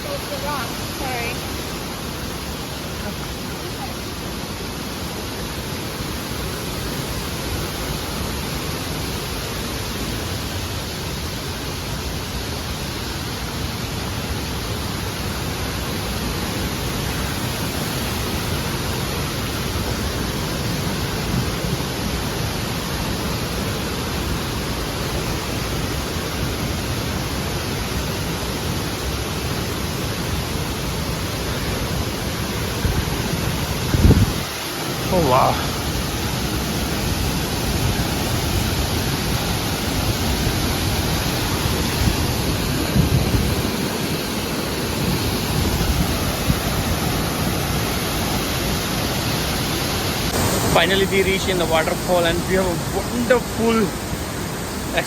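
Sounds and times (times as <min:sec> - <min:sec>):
rushing water hiss: 0:00.0 - 0:55.0.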